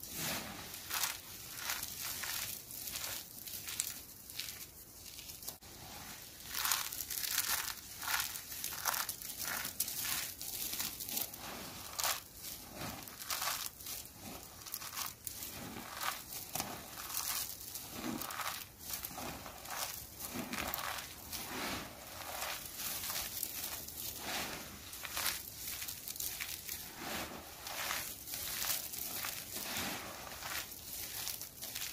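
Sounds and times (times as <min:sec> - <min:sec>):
soap shavings crunching: 0:00.0 - 0:31.9.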